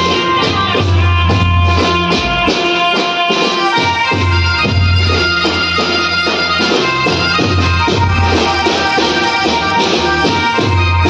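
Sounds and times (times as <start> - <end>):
reedy melody: 0.0 - 11.0
steady drum beat: 0.0 - 11.0.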